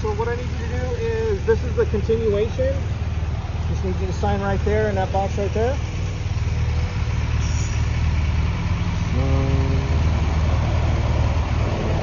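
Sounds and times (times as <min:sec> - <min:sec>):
car engine idling with deep exhaust: 0:00.0 - 0:12.0.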